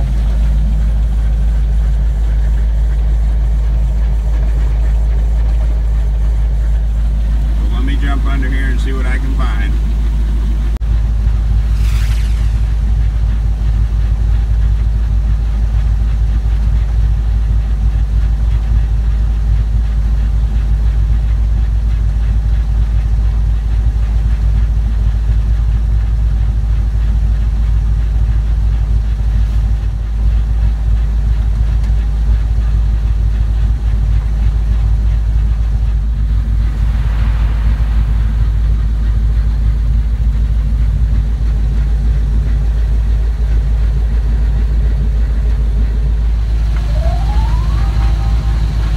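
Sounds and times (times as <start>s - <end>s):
car engine idling: 0.0s - 48.9s
grinding in driveline: 0.0s - 48.9s.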